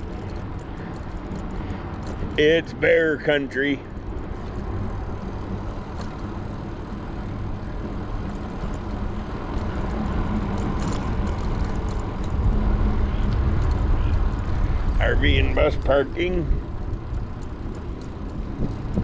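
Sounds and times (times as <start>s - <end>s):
moving vehicle road noise: 0.0s - 19.0s.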